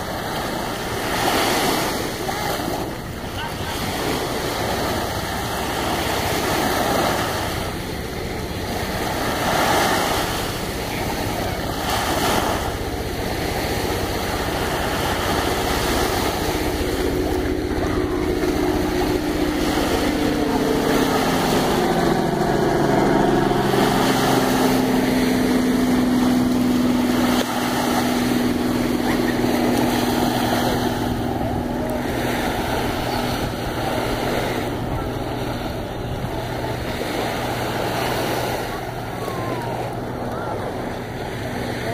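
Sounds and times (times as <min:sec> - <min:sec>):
passing motor drone: 0:00.0 - 0:41.9
small waves washing onto shore: 0:00.0 - 0:41.9
wind on microphone: 0:00.0 - 0:41.9.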